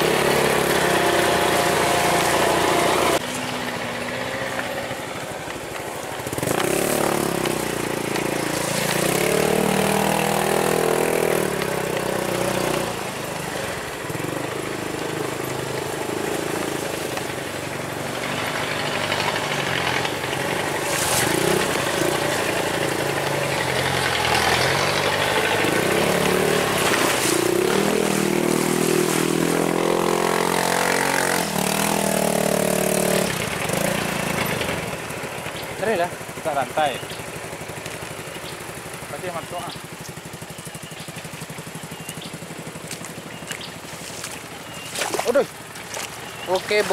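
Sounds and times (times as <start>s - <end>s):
truck engine revving under load: 0.0s - 40.4s.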